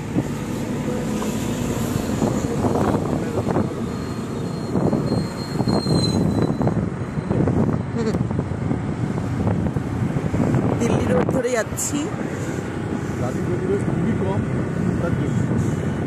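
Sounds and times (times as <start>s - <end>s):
vehicle engine and road rumble: 0.0s - 16.0s
wind buffeting microphone: 0.0s - 16.0s.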